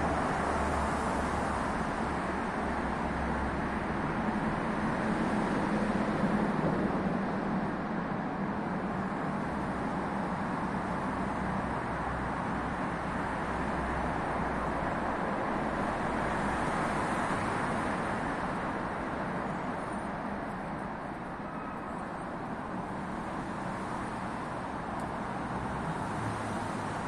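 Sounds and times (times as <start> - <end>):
road traffic rush: 0.0 - 27.0.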